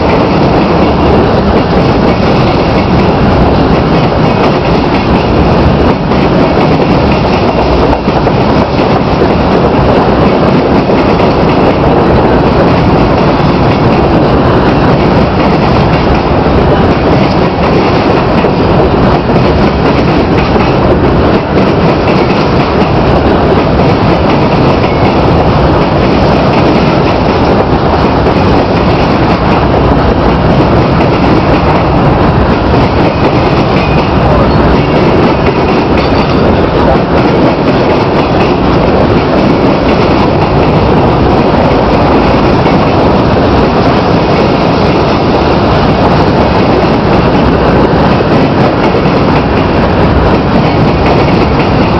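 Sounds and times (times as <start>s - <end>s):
freight train wheels rumbling on rail: 0.0s - 51.9s.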